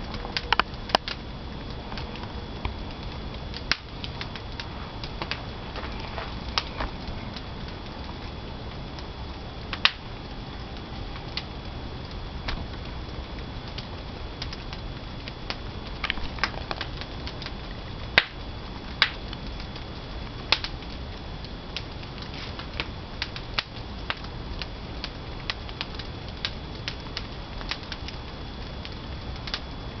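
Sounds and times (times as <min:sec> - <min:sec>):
firewood crackling and popping: 0:00.0 - 0:30.0
low rush of fire: 0:00.0 - 0:30.0.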